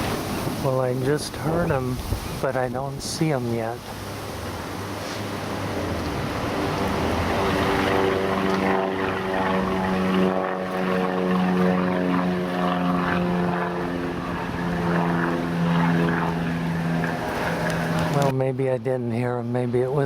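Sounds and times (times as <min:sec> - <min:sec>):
propeller aircraft engine hum: 0:00.0 - 0:18.3.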